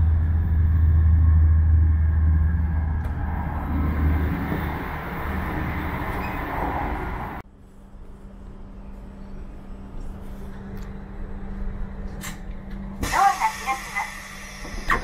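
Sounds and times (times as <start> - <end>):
standing train low hum: 0.0 - 15.0
train running rumble: 0.0 - 15.0.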